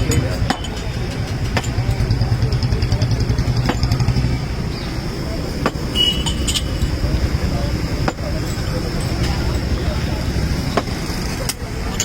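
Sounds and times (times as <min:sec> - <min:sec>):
faint background voices: 0:00.0 - 0:12.0
vehicle engine rumbling: 0:00.0 - 0:12.0.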